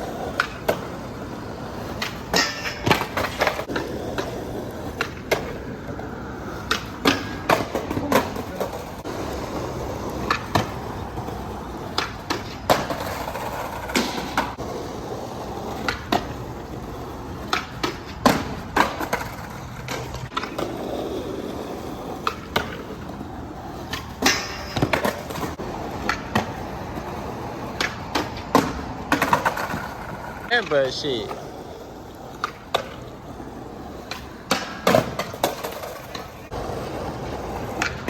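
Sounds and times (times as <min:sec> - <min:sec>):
skateboard wheels rumbling: 0:00.0 - 0:38.0
skateboards clacking: 0:00.0 - 0:38.0.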